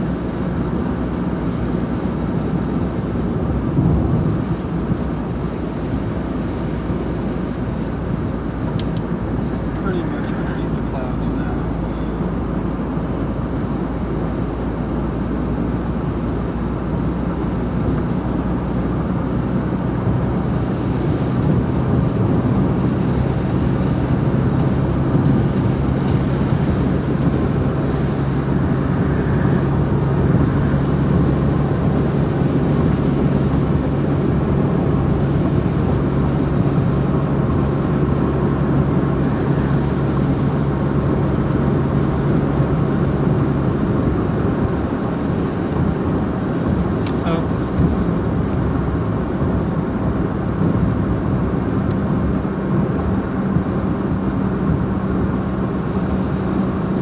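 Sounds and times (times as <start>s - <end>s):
tyres on wet road: 0.0s - 57.0s.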